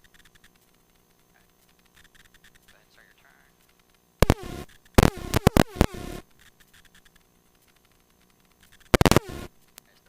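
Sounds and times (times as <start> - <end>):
radio static and squelch: 0.0 - 10.0.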